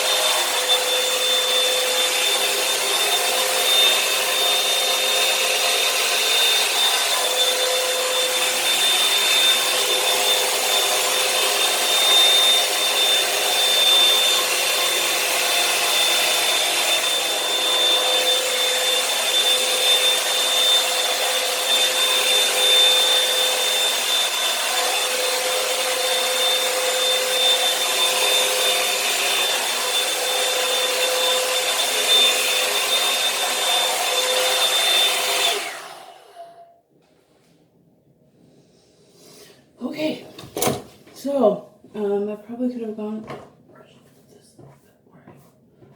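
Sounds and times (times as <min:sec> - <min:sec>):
hair dryer whining: 0:00.0 - 0:36.8, 0:39.2 - 0:41.5.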